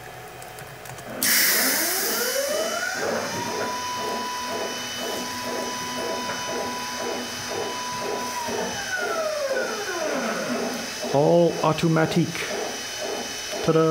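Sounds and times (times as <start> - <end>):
electric motors whining: 1.1 - 13.9.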